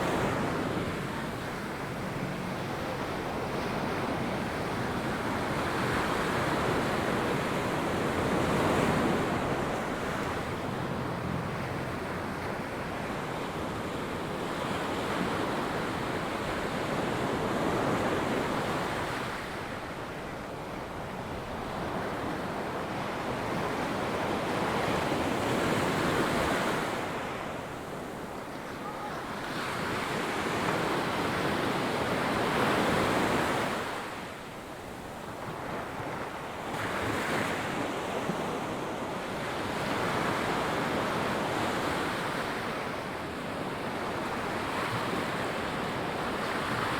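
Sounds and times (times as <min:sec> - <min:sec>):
ocean waves breaking on beach: 0:00.0 - 0:46.9.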